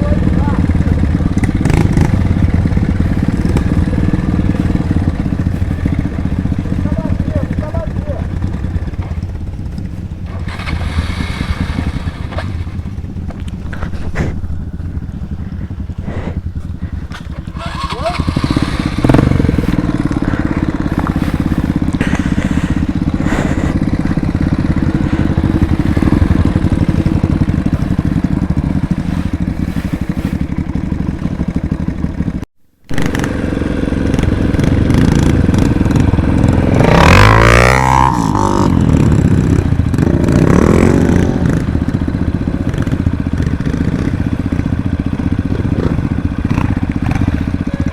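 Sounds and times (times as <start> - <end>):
trail motorcycle engine running: 0.0 - 47.9.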